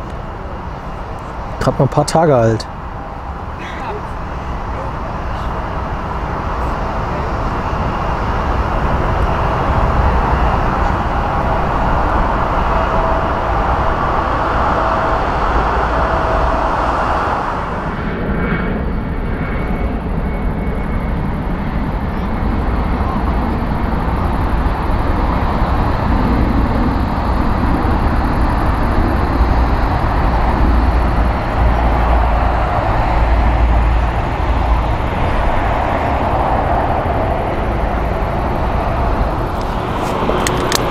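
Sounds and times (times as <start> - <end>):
faint steady whine: 0.0 - 40.9
jet engines at take-off: 0.0 - 40.9
jet rumbling along runway: 0.0 - 40.9.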